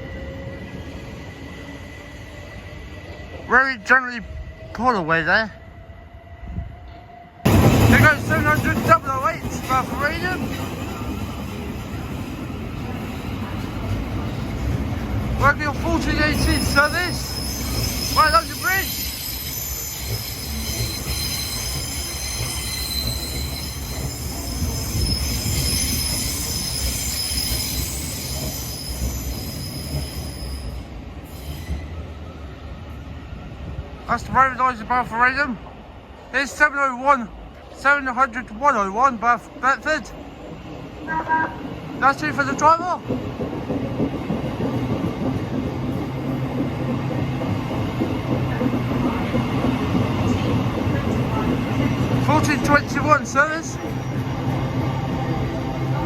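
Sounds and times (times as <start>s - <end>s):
electric train hum: 0.0s - 34.4s, 39.5s - 56.0s
train wheels rumbling on rails: 6.4s - 56.0s.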